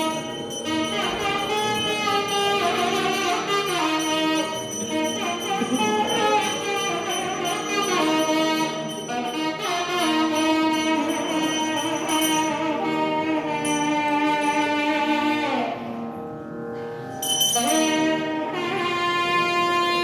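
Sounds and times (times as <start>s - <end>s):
instrumental music long held notes: 0.0s - 20.0s.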